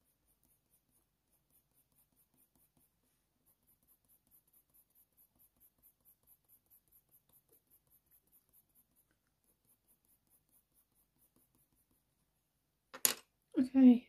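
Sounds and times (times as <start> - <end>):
colour pencil scratching on paper: 0.0 - 12.4.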